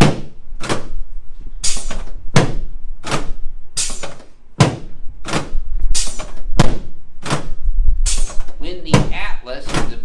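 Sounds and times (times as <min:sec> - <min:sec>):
evenly spaced thuds: 0:00.0 - 0:01.0, 0:01.6 - 0:07.6, 0:08.2 - 0:10.0.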